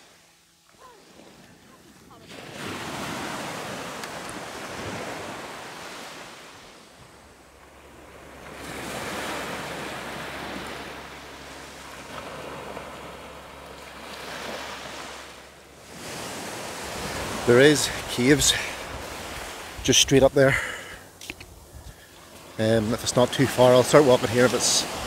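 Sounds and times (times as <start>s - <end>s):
small waves breaking on beach: 0.0s - 25.0s.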